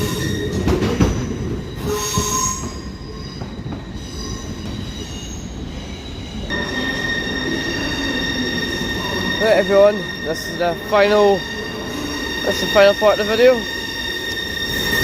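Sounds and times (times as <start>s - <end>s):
train rumbling on track: 0.0s - 15.0s
train wheels squealing: 0.0s - 15.0s.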